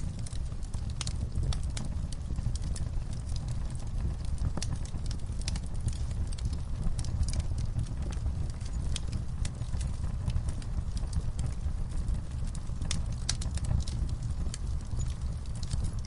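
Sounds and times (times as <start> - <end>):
fire crackling and popping: 0.0 - 16.0
low fire rumble: 0.0 - 16.0.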